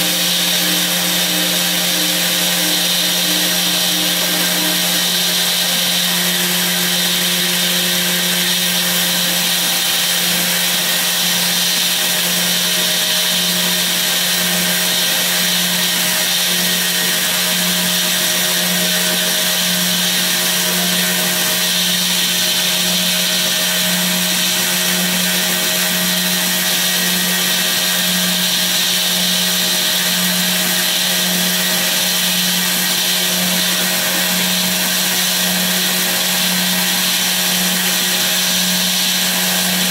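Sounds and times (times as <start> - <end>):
router spindle humming and whining: 0.0 - 39.9.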